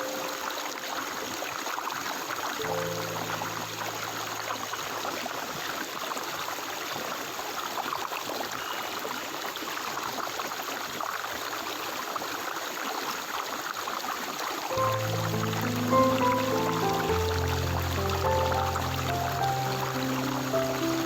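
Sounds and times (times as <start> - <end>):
stream water trickling: 0.0 - 21.0.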